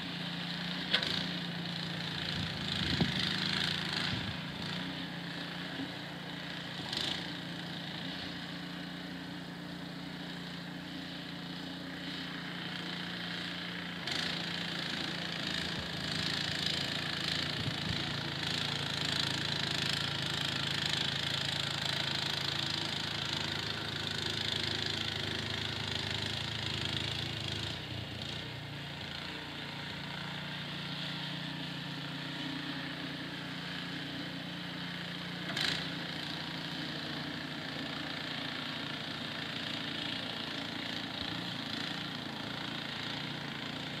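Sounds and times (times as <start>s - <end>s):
snowblower engine running: 0.0s - 44.0s.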